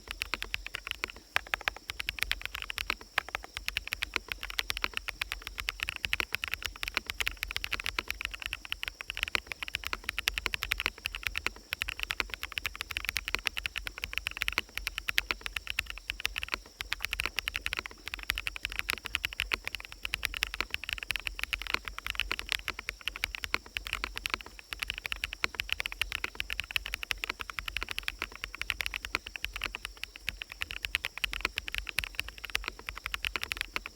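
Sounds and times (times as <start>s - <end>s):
fast typing on mechanical keyboard: 0.0s - 33.9s
forest ambience: 0.0s - 33.9s.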